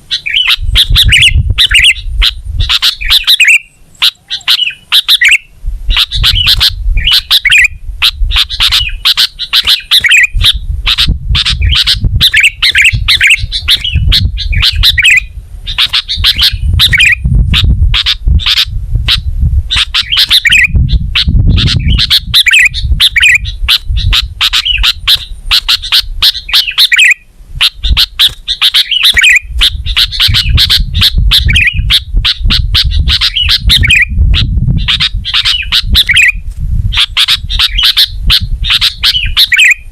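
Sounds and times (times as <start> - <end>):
bulbul singing chattering chirps: 0.0 - 39.9.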